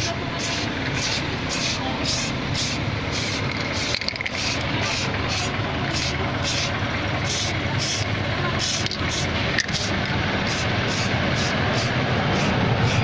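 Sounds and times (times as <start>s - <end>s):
aerosol spray can hissing: 0.0s - 13.0s.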